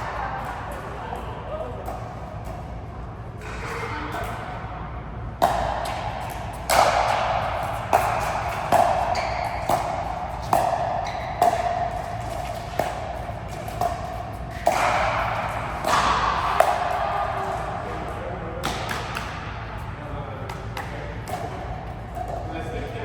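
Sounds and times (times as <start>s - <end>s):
racket strikes ringing in hall: 0.0s - 23.0s.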